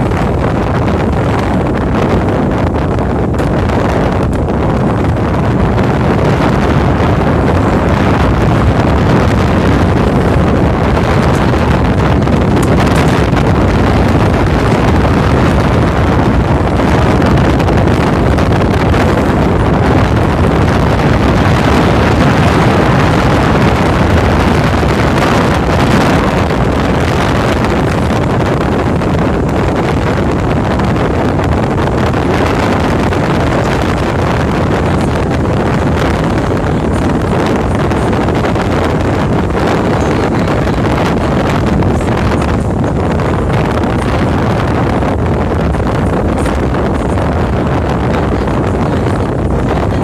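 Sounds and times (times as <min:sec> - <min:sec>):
boat engine: 0:00.0 - 0:50.0
wind buffeting microphone: 0:00.0 - 0:50.0.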